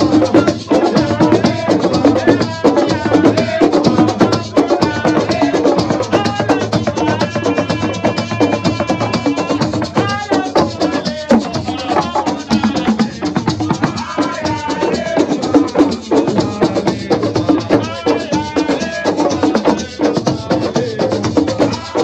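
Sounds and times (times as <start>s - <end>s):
drums: 0.0s - 22.0s
man singing through loudspeaker: 0.0s - 22.0s
rattles or shakers: 0.0s - 22.0s.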